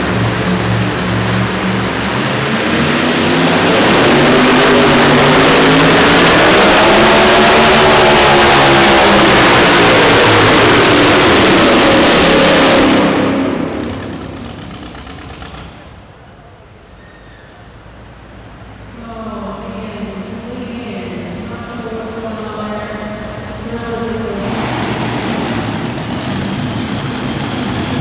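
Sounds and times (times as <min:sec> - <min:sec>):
truck engine at full throttle: 0:00.0 - 0:16.4, 0:20.1 - 0:28.0.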